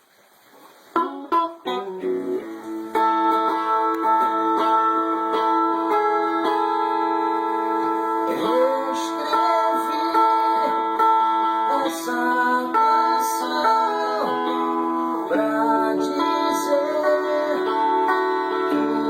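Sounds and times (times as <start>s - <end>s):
acoustic guitar playing: 0.7s - 19.0s.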